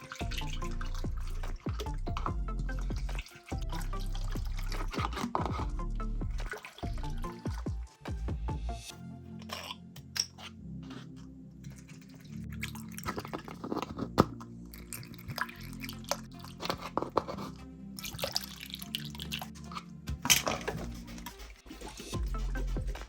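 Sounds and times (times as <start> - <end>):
quiet background music: 0.0 - 23.0.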